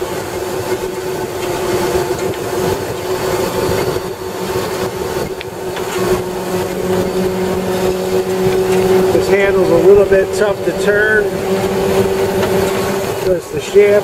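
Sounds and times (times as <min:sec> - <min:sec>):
band saw running: 0:00.0 - 0:14.0.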